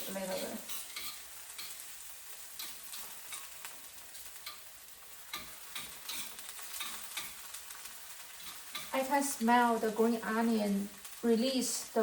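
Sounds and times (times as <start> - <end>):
food sizzling in oil: 0.0 - 12.0
utensil stirring in pan: 0.0 - 12.0.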